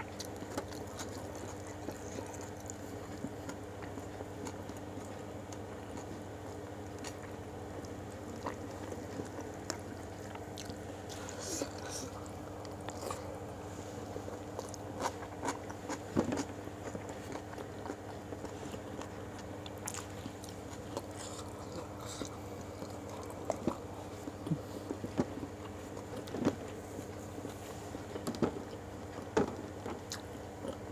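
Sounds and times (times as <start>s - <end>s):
person chewing food: 0.0s - 30.9s
steady low hum: 0.0s - 30.9s.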